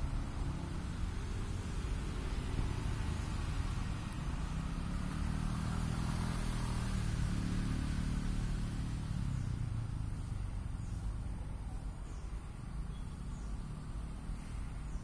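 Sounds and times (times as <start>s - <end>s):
distant vehicle engine hum: 0.0s - 15.0s.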